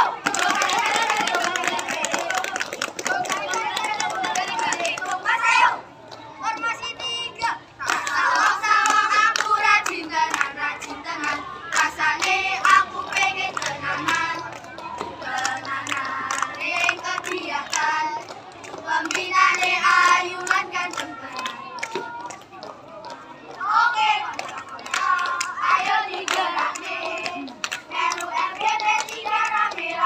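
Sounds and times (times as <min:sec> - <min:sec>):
hand claps: 0:00.0 - 0:05.5, 0:07.8 - 0:30.0
children singing and chanting: 0:00.0 - 0:30.0.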